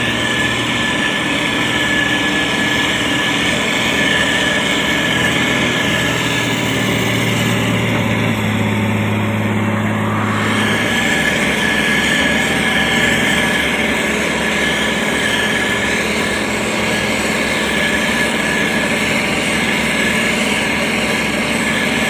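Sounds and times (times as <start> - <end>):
diesel engine running under load: 0.0 - 22.0
high whine: 0.0 - 22.0.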